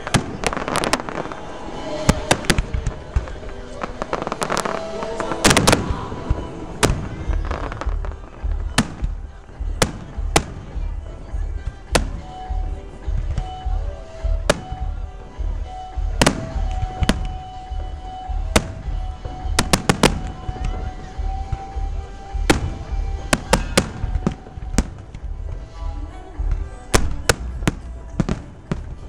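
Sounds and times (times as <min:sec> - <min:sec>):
fireworks bangs: 0:00.0 - 0:29.0
music with held notes: 0:00.0 - 0:29.0.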